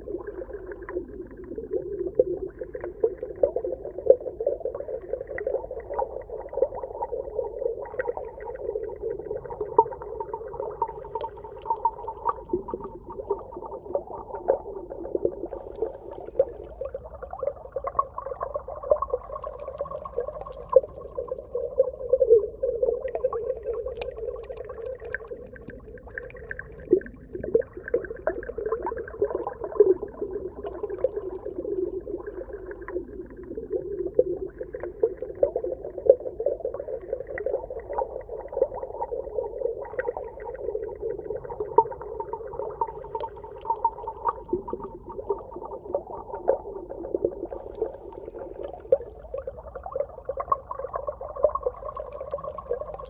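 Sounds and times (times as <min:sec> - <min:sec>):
crackle of clicks and pops: 0:00.0 - 0:53.0.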